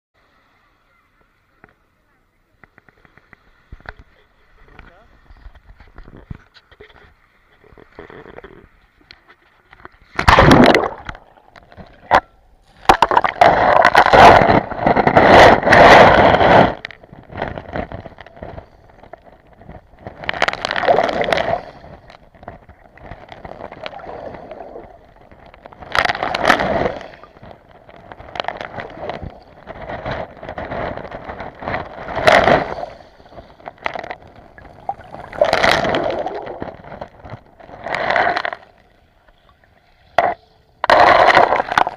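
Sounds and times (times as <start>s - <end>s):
water sloshing and bubbling: 0.2s - 41.9s.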